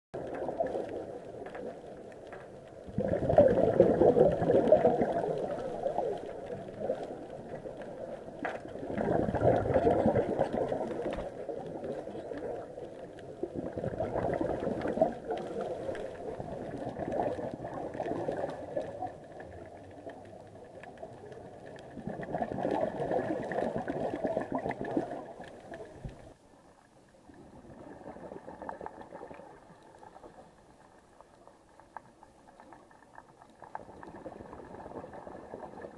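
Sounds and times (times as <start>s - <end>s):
faint clicks and crackle: 0.1s - 35.9s
underwater exhaled bubbles: 0.2s - 35.9s.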